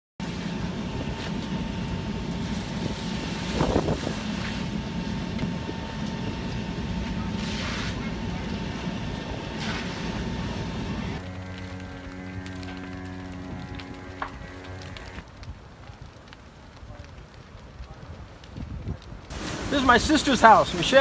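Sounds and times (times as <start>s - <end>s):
roar of house fire and hose: 0.2s - 21.0s.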